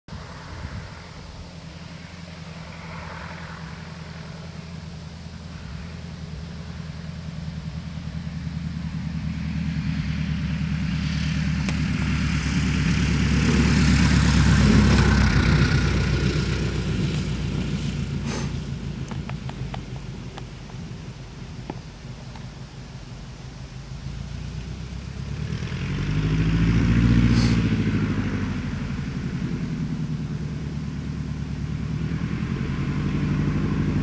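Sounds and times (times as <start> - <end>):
light plane engine droning: 0.1 - 34.0.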